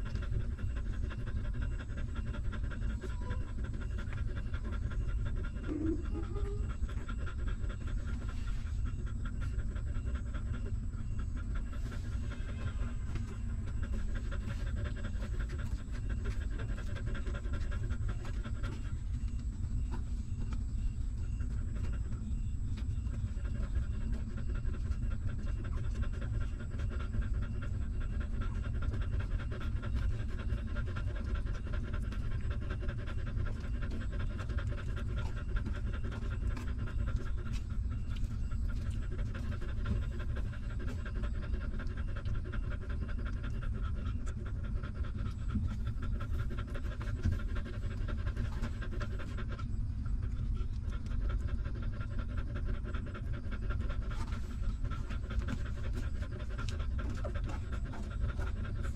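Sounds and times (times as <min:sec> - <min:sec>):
constant low rumble: 0:00.0 - 0:58.9
dog panting quickly: 0:00.0 - 0:58.9.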